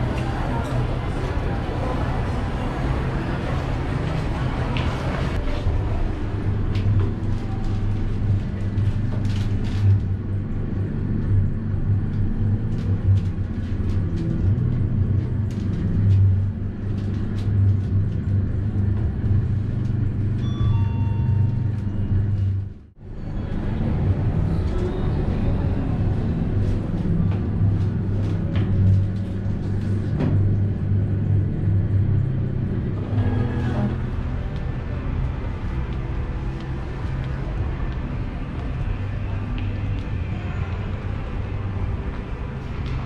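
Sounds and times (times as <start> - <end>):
faint background music: 0.0 - 43.0
low hum: 0.0 - 43.0.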